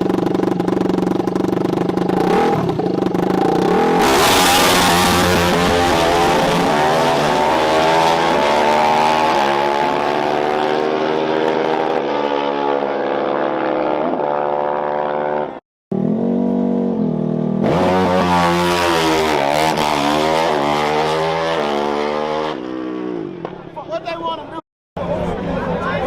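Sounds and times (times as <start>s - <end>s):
dirt bike engines revving: 0.0s - 23.8s.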